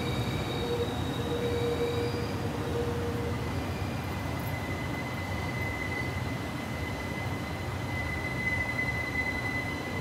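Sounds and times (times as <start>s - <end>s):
low rumble of train running gear: 0.0s - 10.0s
train brakes squealing: 0.0s - 10.0s.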